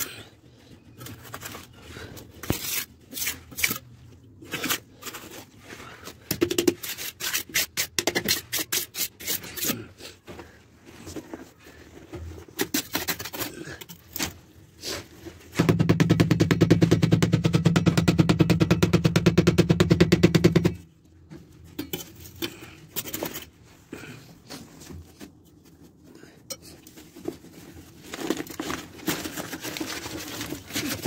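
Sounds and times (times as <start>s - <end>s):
knocks and scrapes: 0.9s - 23.7s, 26.6s - 31.0s.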